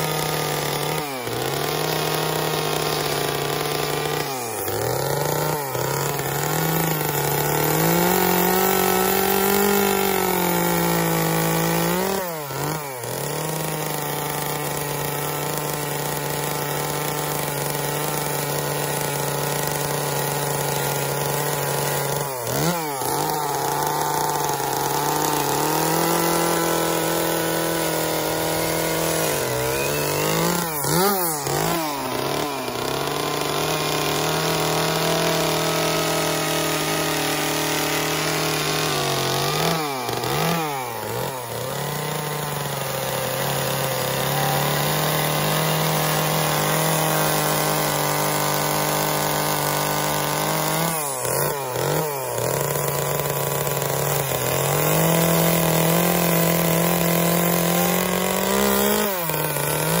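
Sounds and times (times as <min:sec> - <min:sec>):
chainsaw cutting wood: 0:00.0 - 1:00.0.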